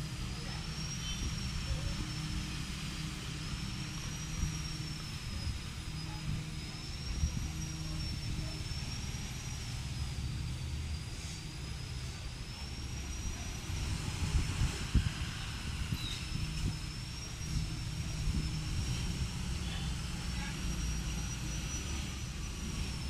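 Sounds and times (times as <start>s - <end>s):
low humming rumble: 0.0s - 23.0s
thin high wavering whine: 0.0s - 23.0s.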